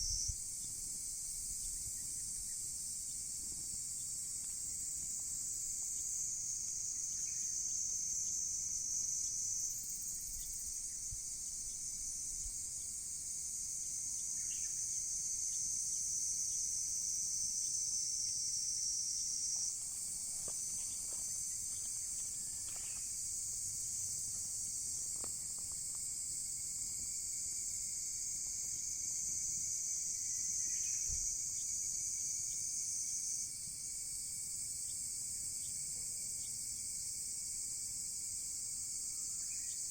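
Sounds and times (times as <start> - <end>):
crickets chirping: 0.0 - 39.9
low insect trill: 0.0 - 39.9.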